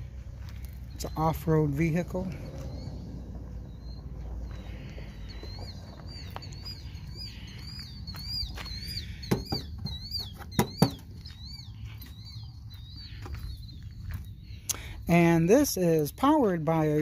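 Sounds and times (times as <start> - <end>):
bird chirping: 0.3 - 17.0.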